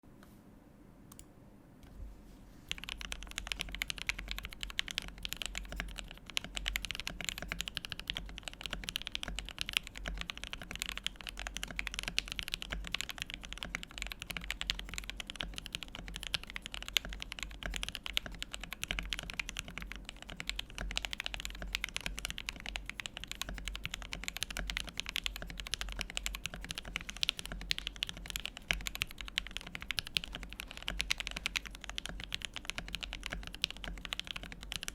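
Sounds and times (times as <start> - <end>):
fast typing on mechanical keyboard: 2.7 - 34.9.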